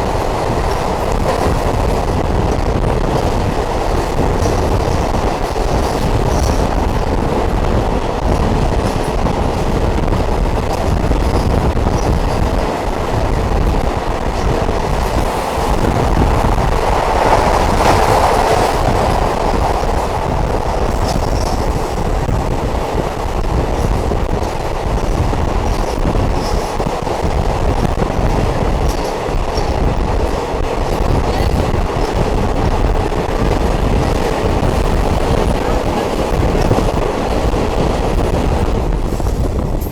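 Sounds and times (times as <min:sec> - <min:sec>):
train wheels and engine rumbling: 0:00.0 - 0:39.9.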